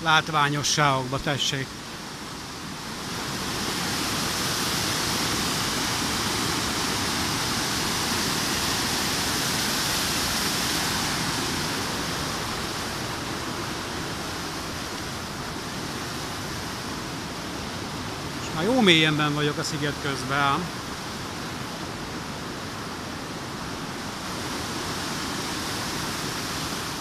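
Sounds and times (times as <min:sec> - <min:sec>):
fast-flowing water rushing: 0:00.0 - 0:27.0.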